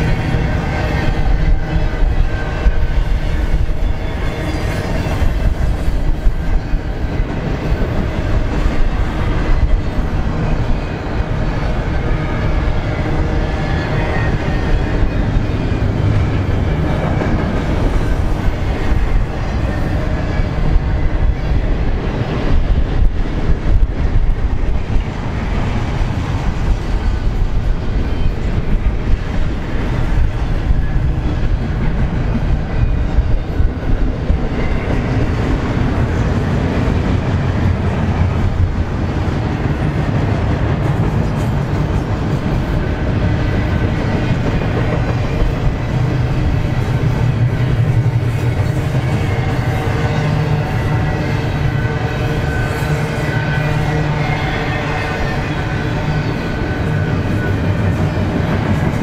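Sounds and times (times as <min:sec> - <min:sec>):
freight train passing: 0:00.0 - 0:59.0.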